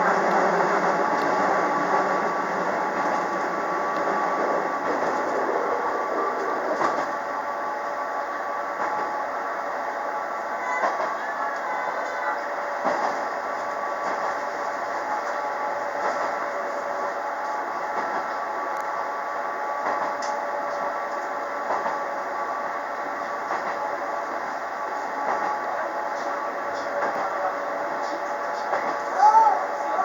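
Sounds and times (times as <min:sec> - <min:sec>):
railcar engine and wheel noise: 0:00.0 - 0:30.0.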